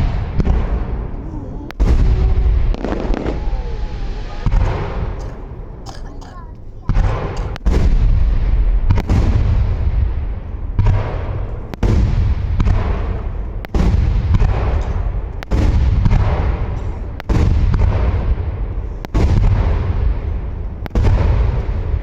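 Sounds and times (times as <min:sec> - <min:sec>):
fireworks shells booming: 0:00.0 - 0:22.0.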